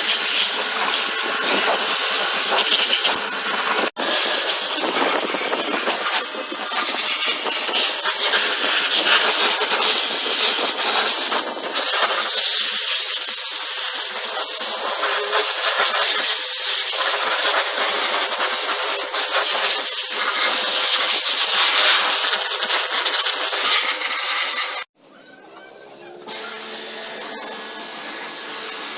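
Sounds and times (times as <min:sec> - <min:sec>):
pressure washer jet hissing: 0:00.0 - 0:24.9, 0:26.3 - 0:28.9.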